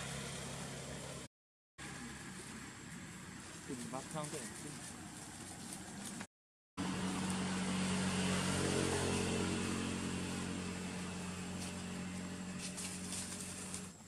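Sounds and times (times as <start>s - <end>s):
motor engine humming: 0.0s - 14.0s.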